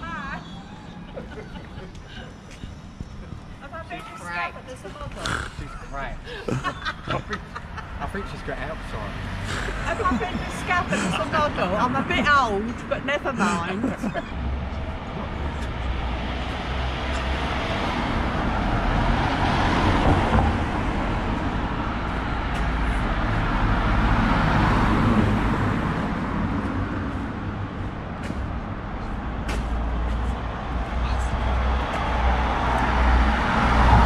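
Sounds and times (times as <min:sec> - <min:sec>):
cars passing: 0:00.0 - 0:34.0
steady low traffic rumble: 0:00.0 - 0:34.0.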